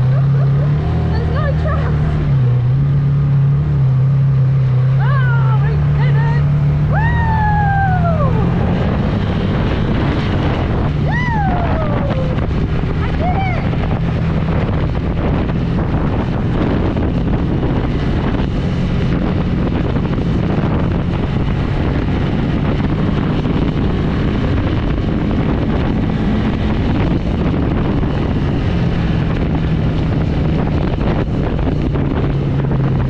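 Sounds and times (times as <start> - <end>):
motorcycle engine revving: 0.0 - 33.0
wind noise on microphone: 0.0 - 33.0.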